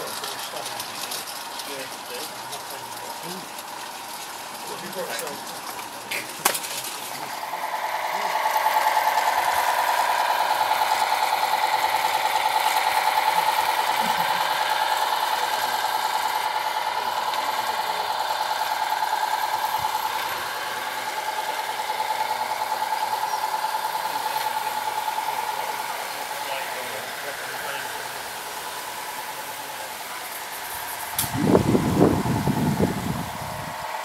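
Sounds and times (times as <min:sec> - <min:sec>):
model locomotive humming: 0:00.0 - 0:34.0.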